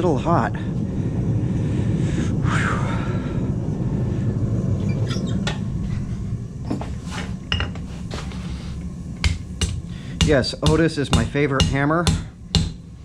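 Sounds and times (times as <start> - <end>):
forge rumbling: 0.0 - 13.0.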